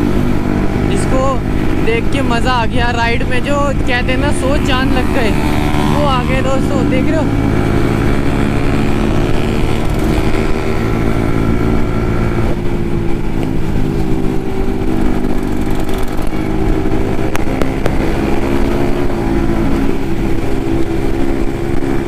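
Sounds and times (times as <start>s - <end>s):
motorcycle engine cruising: 0.0s - 22.0s
wind rumble on microphone: 0.0s - 22.0s.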